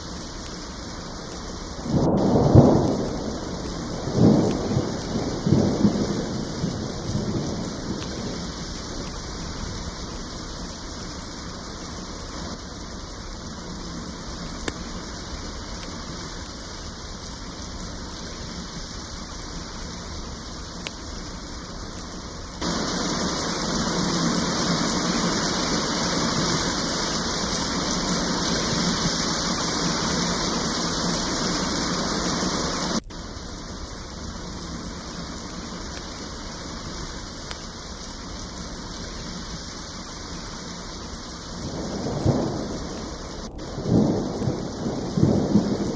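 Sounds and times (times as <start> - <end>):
heavier wash of rain: 0.0 - 45.9
steady rain: 0.0 - 45.9.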